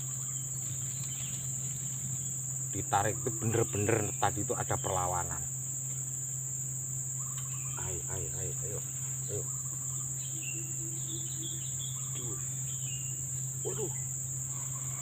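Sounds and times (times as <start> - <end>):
high-pitched insect drone: 0.0 - 15.0
low hum: 0.0 - 15.0.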